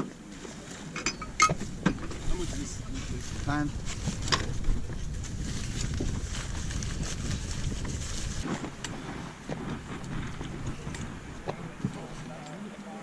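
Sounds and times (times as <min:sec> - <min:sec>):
wind buffeting microphone: 0:01.2 - 0:12.4.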